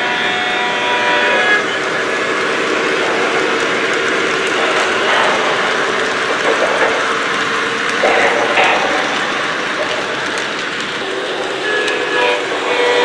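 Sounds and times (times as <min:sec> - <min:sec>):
model train wheels rolling on rails: 0:00.0 - 0:13.0.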